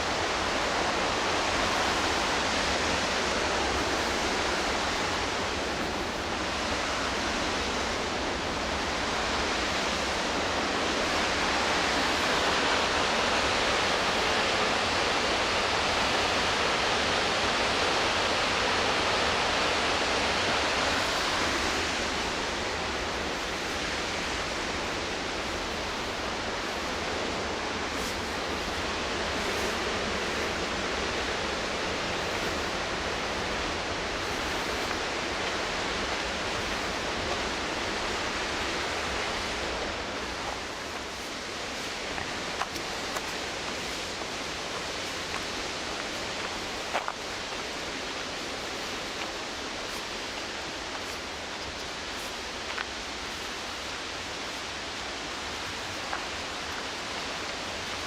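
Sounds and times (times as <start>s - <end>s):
whitewater rushing: 0.0s - 58.0s.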